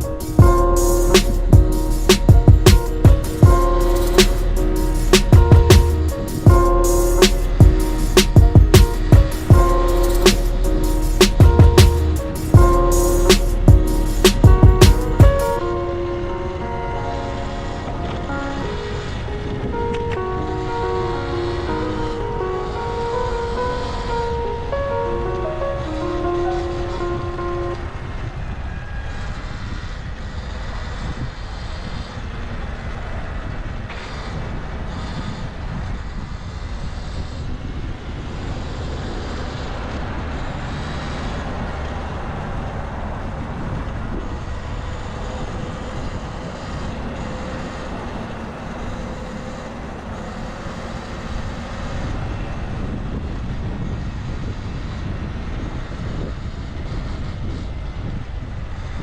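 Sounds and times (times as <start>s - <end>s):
faint engine drone: 0.0s - 59.0s
road noise: 0.0s - 59.0s
wind on microphone: 0.0s - 59.0s.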